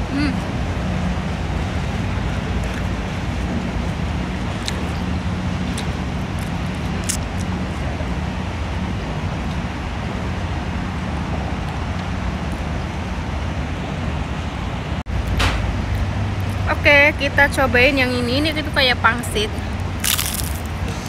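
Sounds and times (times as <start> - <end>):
low hum: 0.0 - 17.4
road traffic rumble: 0.0 - 21.0.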